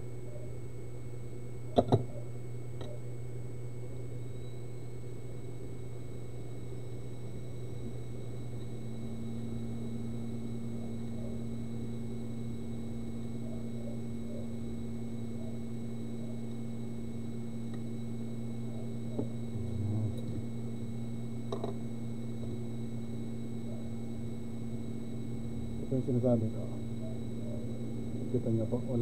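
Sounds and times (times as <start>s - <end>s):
faint high whine: 0.0s - 29.0s
machine hum: 0.0s - 29.0s.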